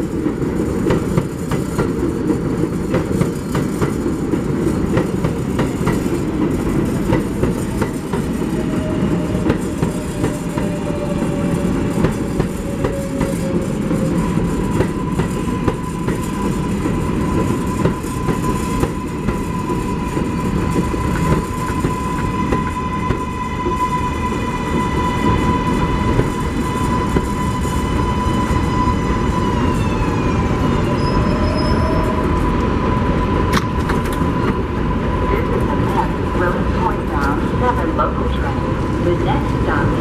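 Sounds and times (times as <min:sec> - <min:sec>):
subway train rumbling: 0:00.0 - 0:40.0.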